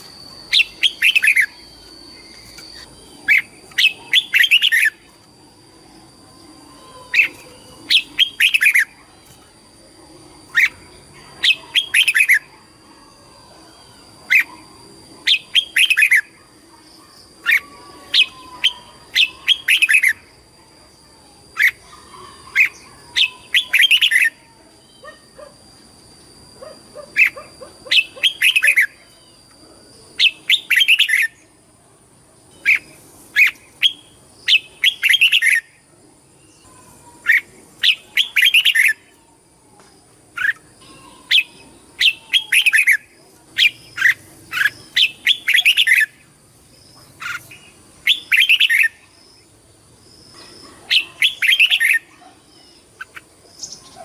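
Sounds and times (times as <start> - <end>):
bird singing warbled phrases: 0.0 - 25.8, 26.6 - 31.6, 32.3 - 39.4, 40.3 - 54.0.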